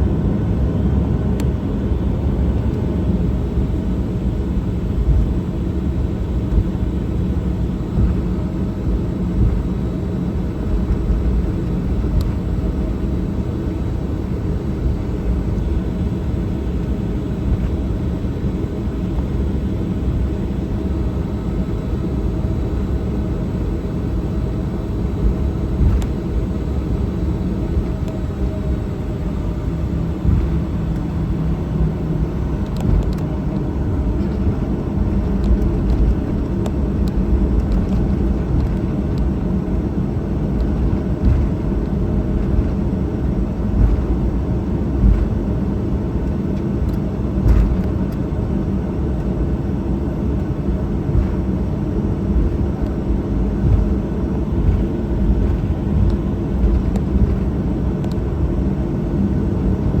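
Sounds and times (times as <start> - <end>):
airplane cabin rumble: 0.0 - 60.0.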